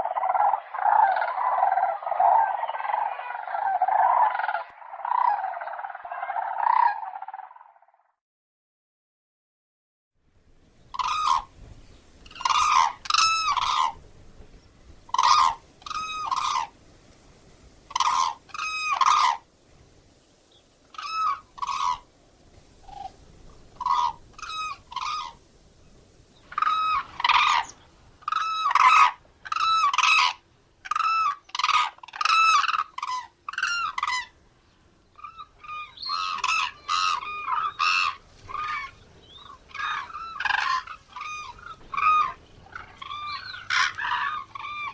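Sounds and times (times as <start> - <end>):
cranes calling: 0.0 - 7.9, 10.9 - 11.6, 12.2 - 14.0, 15.1 - 16.8, 17.9 - 19.5, 20.9 - 25.5, 26.3 - 34.4, 35.1 - 44.9.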